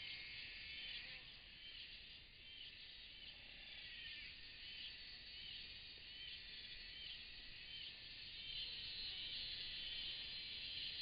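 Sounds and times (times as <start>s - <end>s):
faint insect buzzing: 0.0s - 11.0s
insect chirps: 0.0s - 11.0s.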